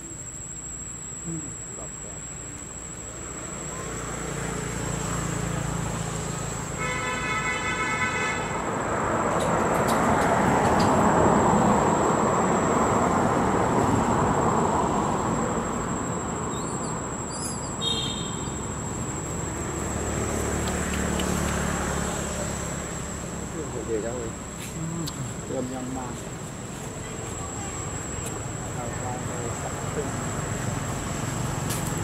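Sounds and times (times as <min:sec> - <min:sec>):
high-pitched insect drone: 0:00.0 - 0:06.8, 0:08.6 - 0:32.0
vehicle passing: 0:03.2 - 0:07.4, 0:08.4 - 0:32.0.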